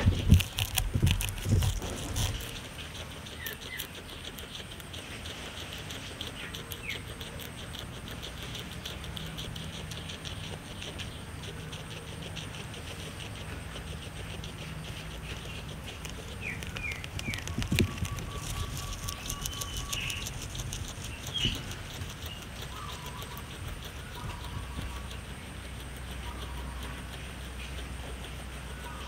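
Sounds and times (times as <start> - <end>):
guinea pig chewing grass: 0.0 - 29.0.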